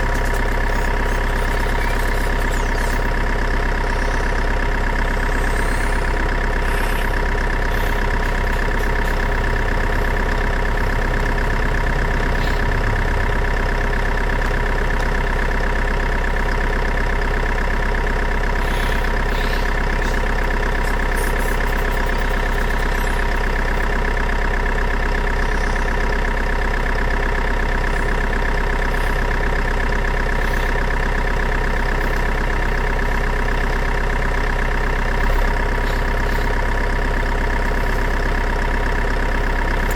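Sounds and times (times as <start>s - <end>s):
motor idling drone: 0.0s - 39.9s.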